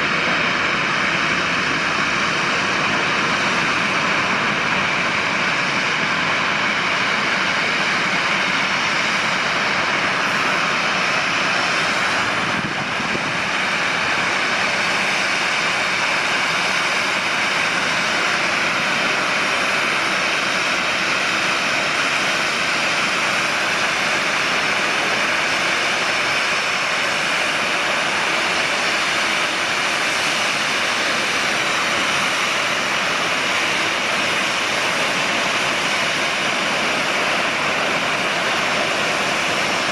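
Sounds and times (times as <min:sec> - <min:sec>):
jet engines at taxi power: 0:00.0 - 0:39.9.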